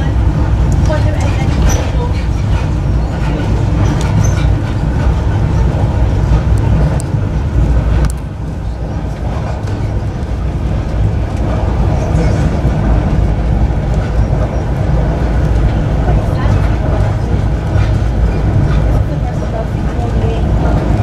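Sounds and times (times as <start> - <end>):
train rumbling at speed: 0.0 - 21.0.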